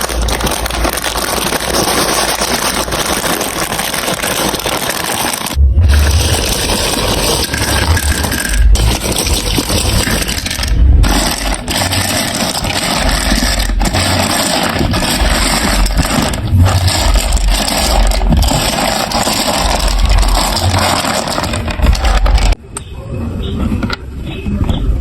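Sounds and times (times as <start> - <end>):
marbles rattling down plastic track: 0.0 - 22.6.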